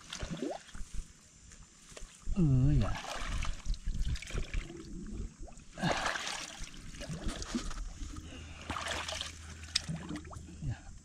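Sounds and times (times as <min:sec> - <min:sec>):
water splashing and trickling: 0:00.0 - 0:01.0, 0:02.4 - 0:10.6.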